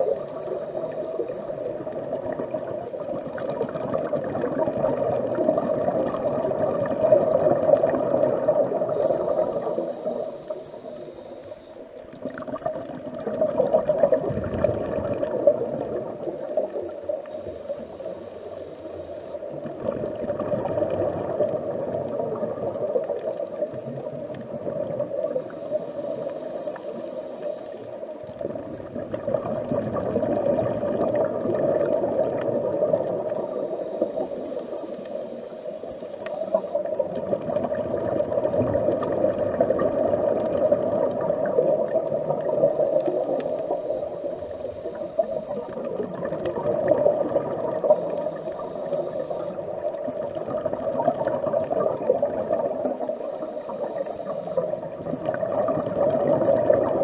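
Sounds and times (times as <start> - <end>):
underwater diver breathing bubbles: 0.0 - 57.0
faint high hiss: 5.1 - 13.8, 15.1 - 29.0, 31.0 - 55.7.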